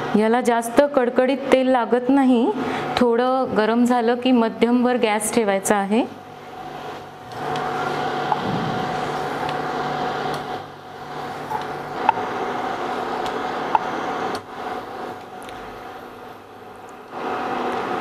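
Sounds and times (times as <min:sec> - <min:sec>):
induction cooktop humming: 0:00.0 - 0:18.0.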